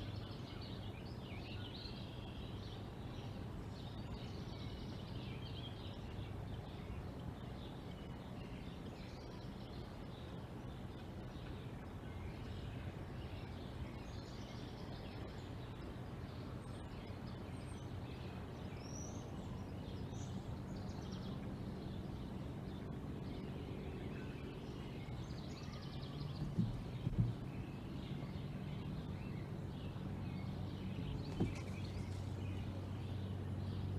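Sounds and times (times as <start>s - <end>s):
small birds chirping: 0.0s - 33.9s
steady low hum: 0.0s - 33.9s.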